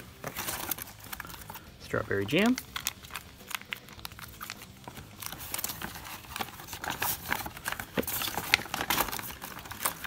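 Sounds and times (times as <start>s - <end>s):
plastic and foil packets crinkling: 0.0s - 10.0s.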